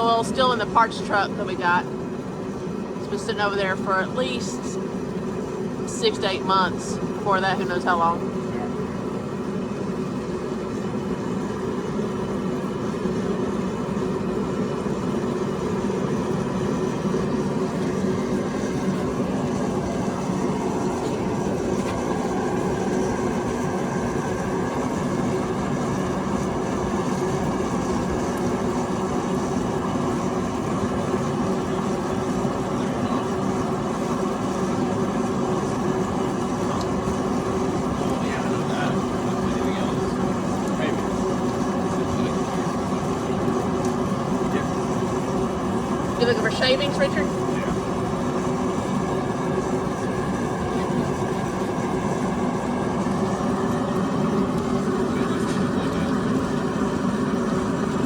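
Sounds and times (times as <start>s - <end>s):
machine droning: 0.0s - 58.0s.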